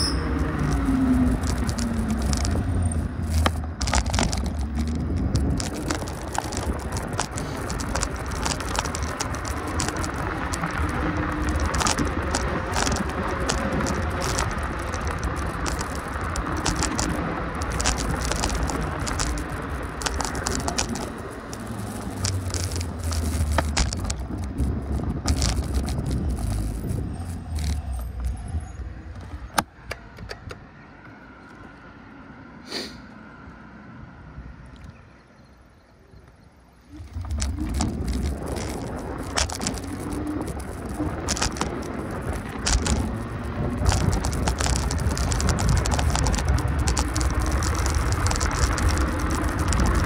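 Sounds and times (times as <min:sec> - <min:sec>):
rattles and clicks: 0:00.0 - 0:30.6, 0:36.9 - 0:50.0
vehicle rumble and ride noise: 0:00.0 - 0:50.0.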